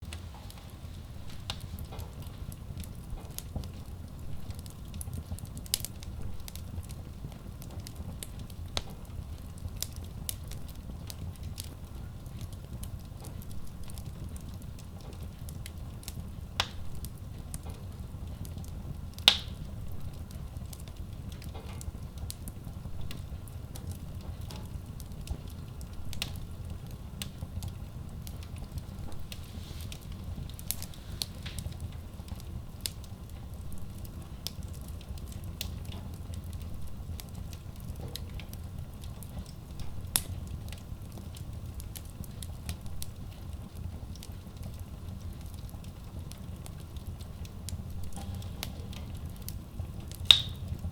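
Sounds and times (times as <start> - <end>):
rumble of flames: 0.0 - 50.9
wood crackling and popping: 0.0 - 50.9.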